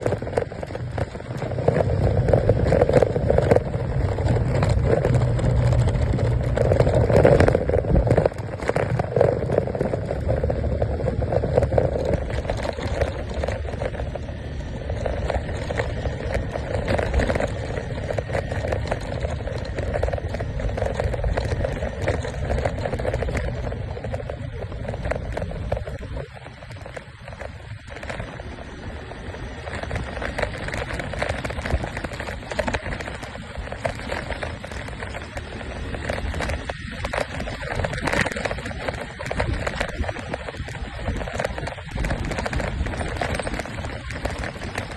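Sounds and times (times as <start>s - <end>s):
motor scooter running: 0.0s - 44.9s.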